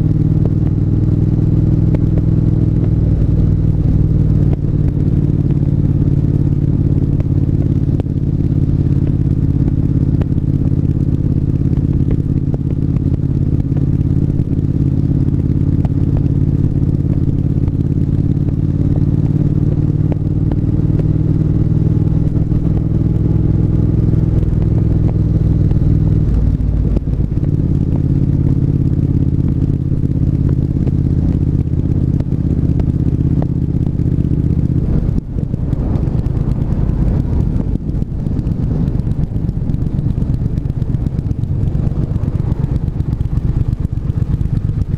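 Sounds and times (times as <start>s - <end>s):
motorcycle engine running: 0.0s - 44.9s
wind noise: 0.0s - 44.9s.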